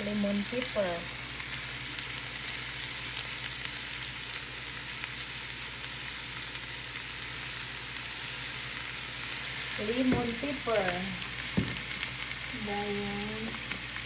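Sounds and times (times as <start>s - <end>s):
squash sizzling in a pan: 0.0s - 14.0s.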